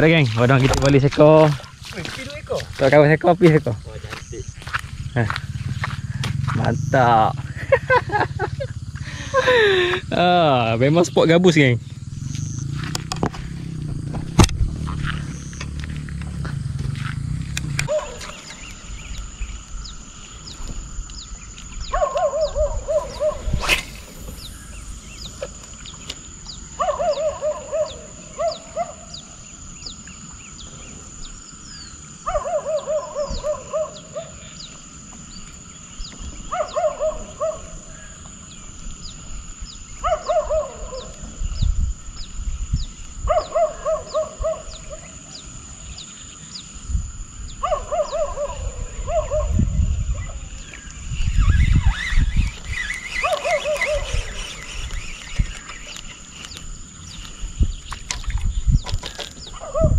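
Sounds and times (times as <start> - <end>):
steady high-pitched whine: 0.0 - 59.8.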